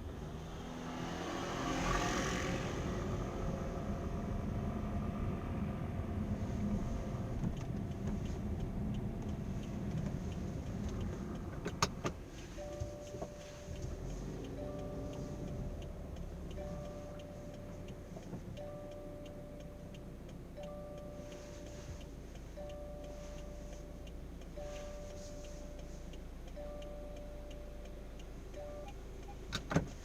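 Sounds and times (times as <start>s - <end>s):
car engine running: 0.0s - 30.0s
faint rapid ticking: 3.9s - 30.0s.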